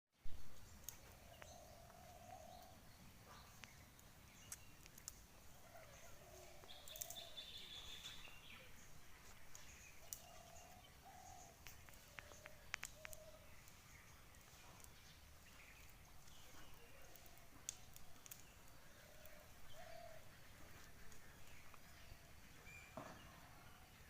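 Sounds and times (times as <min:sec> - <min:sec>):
higher bird chirps: 0:00.4 - 0:23.8
soft low cooing calls: 0:01.1 - 0:03.8, 0:05.4 - 0:09.0, 0:09.7 - 0:15.0, 0:15.6 - 0:23.9.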